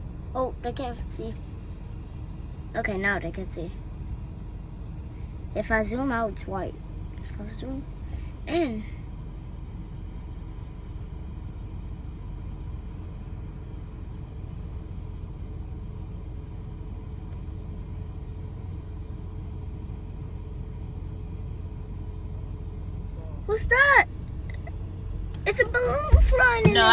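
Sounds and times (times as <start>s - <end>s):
car engine and road noise: 0.0s - 26.9s
faint steady hum: 0.0s - 26.9s.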